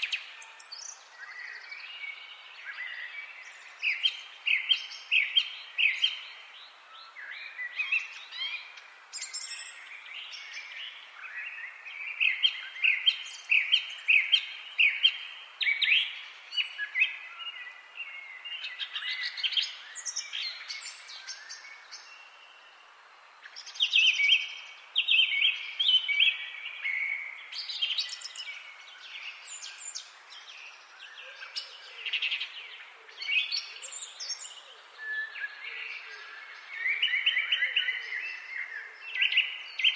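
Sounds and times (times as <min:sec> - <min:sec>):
forest ambience hiss: 0:00.0 - 0:39.9
songbirds chirping: 0:00.0 - 0:39.9.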